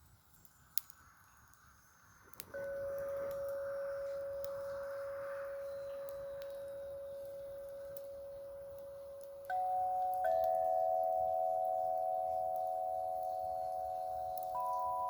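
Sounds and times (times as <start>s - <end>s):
ringing metal tones: 2.6s - 15.0s.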